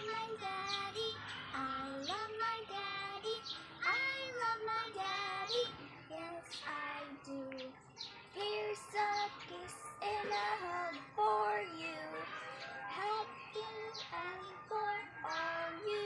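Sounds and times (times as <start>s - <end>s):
young boy singing: 0.0s - 7.8s, 8.4s - 16.0s.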